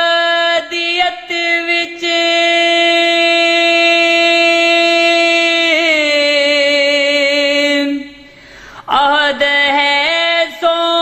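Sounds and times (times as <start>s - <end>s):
man singing unaccompanied: 0.0s - 8.2s, 8.9s - 11.0s.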